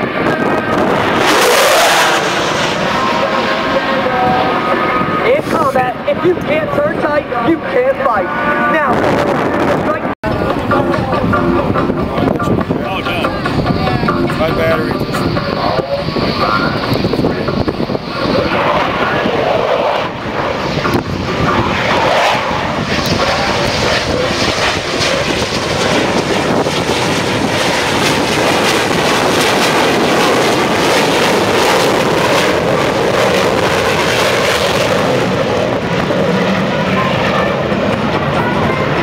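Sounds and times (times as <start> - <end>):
jet engine roar: 0.0 - 39.0.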